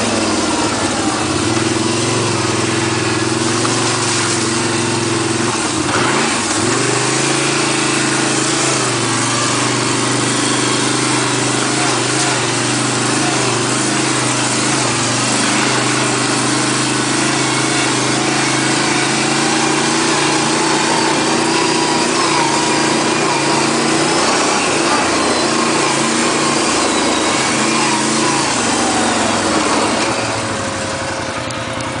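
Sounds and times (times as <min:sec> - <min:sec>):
atv engine running: 0:00.0 - 0:32.0
wind and trail noise: 0:00.0 - 0:32.0.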